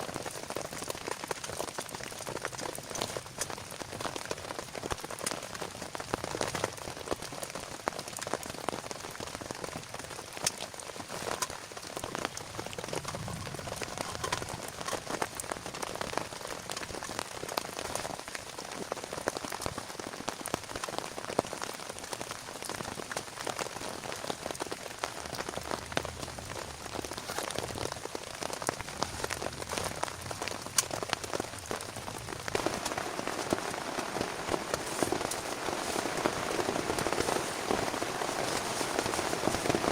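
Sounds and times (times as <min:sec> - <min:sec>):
raindrops ticking nearby: 0:00.0 - 0:39.9
steady rain falling: 0:00.0 - 0:39.9.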